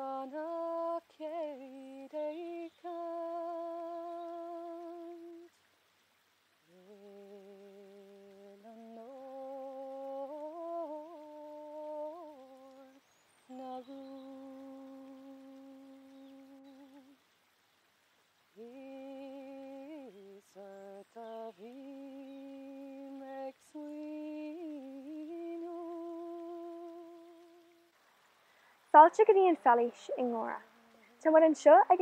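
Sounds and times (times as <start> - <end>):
person humming slowly: 0.0 - 5.7, 6.6 - 17.3, 18.4 - 28.0, 30.5 - 31.3.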